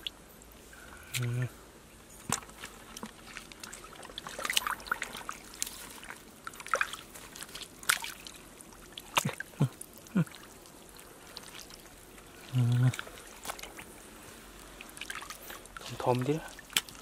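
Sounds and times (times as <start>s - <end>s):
muddy water sloshing: 2.1s - 17.0s
water plops: 2.2s - 14.0s, 14.6s - 17.0s.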